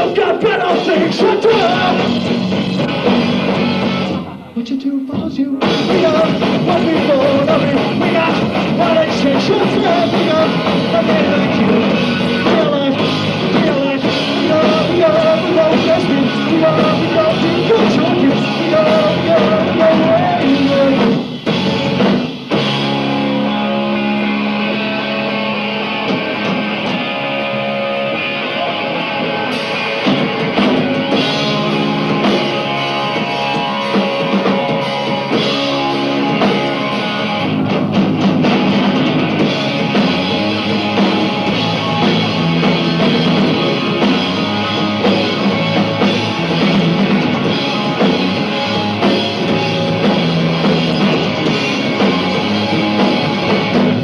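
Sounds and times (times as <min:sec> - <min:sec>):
punk rock band playing: 0:00.0 - 0:54.0.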